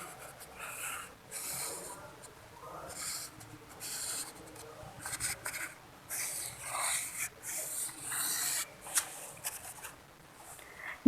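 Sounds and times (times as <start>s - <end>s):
marker scratching on paper: 0.0s - 10.6s
paper rubbing: 0.0s - 10.6s.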